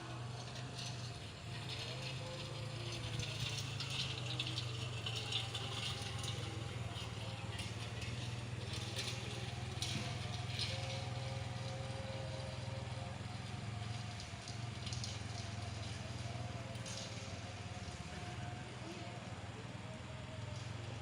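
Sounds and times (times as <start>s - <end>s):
dense rattle of golf balls: 0.0s - 21.0s
machine engine droning: 0.0s - 21.0s.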